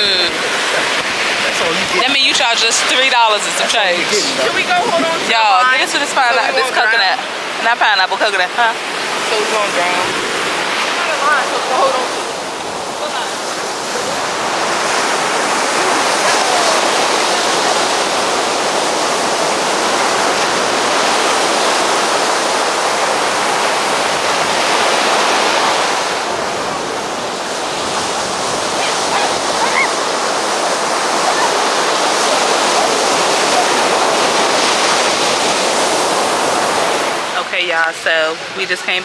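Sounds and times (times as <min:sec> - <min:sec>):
ocean surf washing onto beach: 0:00.0 - 0:39.0.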